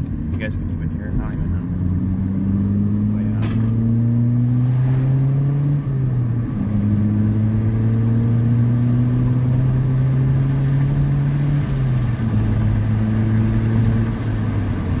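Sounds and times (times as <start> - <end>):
car engine droning under full throttle: 0.0 - 15.0.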